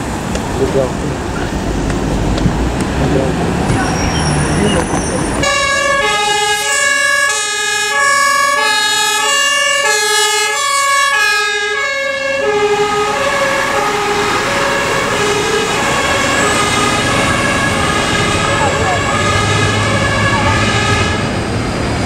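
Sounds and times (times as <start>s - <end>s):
vehicles passing: 0.0s - 22.0s
two-tone fire engine sirens: 3.7s - 22.0s.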